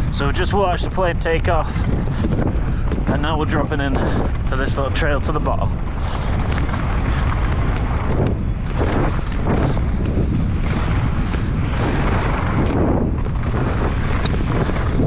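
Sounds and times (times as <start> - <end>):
bike tyres on dirt trail: 0.0 - 15.0
wind rumble on microphone: 0.0 - 15.0.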